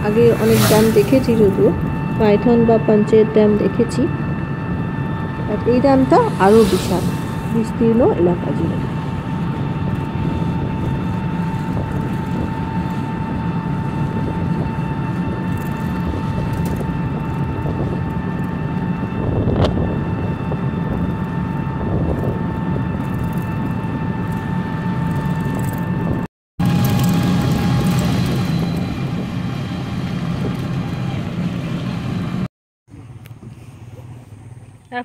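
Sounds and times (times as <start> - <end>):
steady engine-like drone: 0.0 - 35.0.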